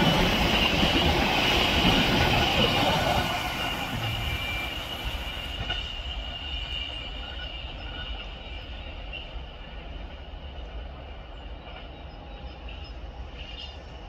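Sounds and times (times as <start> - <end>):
freight train rumble: 0.0 - 14.0
train wheels squealing: 0.0 - 14.0.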